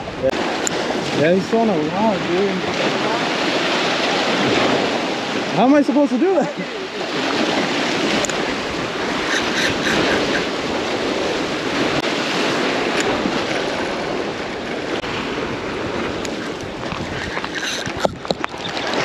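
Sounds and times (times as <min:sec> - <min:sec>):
surf washing against rocks: 0:00.0 - 0:19.0
wind buffeting microphone: 0:00.0 - 0:19.0.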